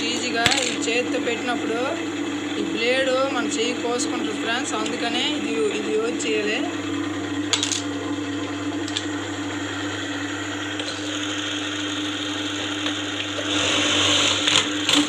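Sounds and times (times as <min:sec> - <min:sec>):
sewing machine motor hum: 0:00.0 - 0:15.0.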